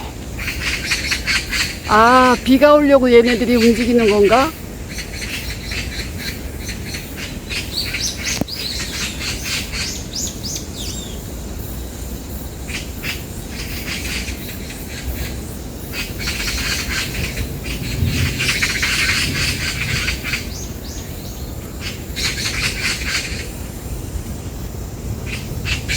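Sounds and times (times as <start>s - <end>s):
magpies chattering: 0.0s - 11.2s, 12.7s - 23.6s, 24.8s - 25.9s.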